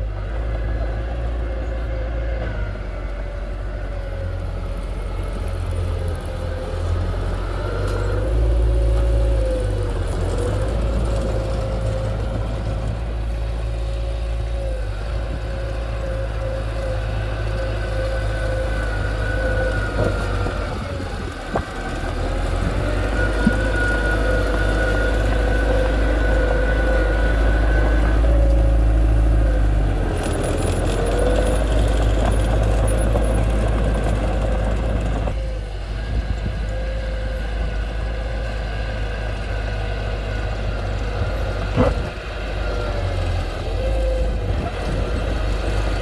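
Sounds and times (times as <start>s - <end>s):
engine whine: 0.0s - 46.0s
heavy diesel engine rumbling: 0.0s - 46.0s.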